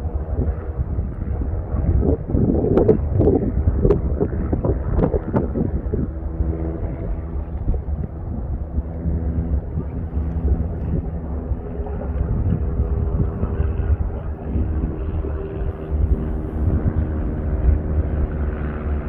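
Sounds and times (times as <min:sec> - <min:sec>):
volcanic eruption rumble: 0:00.0 - 0:19.0
wind buffeting microphone: 0:00.0 - 0:19.0.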